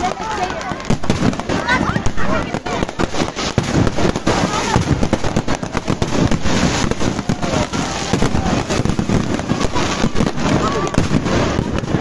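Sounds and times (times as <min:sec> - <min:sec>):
fireworks and firecrackers crackling: 0:00.0 - 0:12.0.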